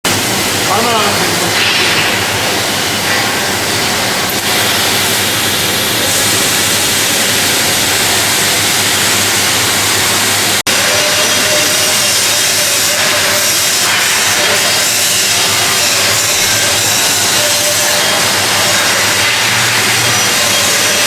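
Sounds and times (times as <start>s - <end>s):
welding machine hissing and humming: 0.1s - 21.0s.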